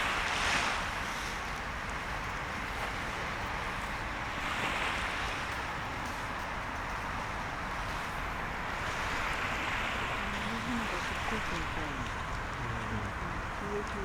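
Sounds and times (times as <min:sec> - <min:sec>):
sea surf washing on shore: 0:00.0 - 0:14.0.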